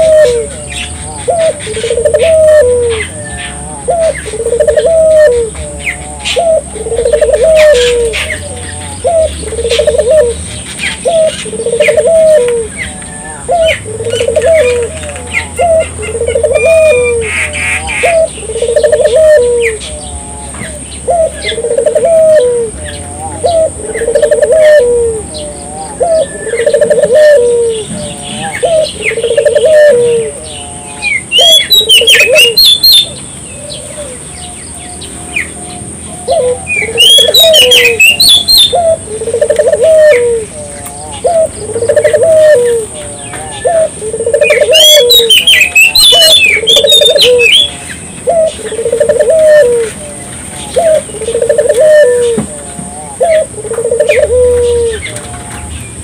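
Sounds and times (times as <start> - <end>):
dove cooing: 0.0 - 34.5, 35.4 - 55.7.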